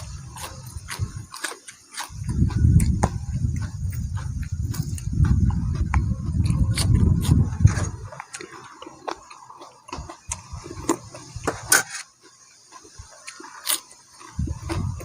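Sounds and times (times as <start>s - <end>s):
wind buffeting microphone: 0.0s - 11.8s, 14.2s - 15.0s.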